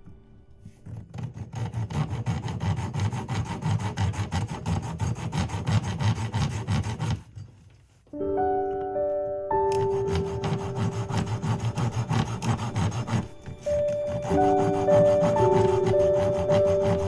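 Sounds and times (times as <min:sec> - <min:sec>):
saw cutting through wood: 0:00.6 - 0:07.6, 0:09.7 - 0:17.0.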